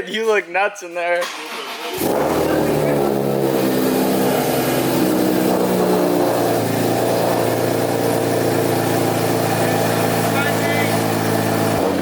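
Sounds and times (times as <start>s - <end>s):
car engine idling: 1.3s - 12.0s.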